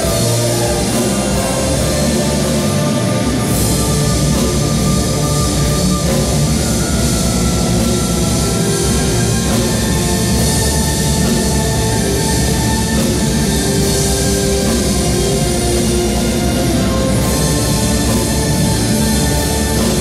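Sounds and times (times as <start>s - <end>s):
drum kit: 0.0s - 20.0s
metal band and orchestra music: 0.0s - 20.0s.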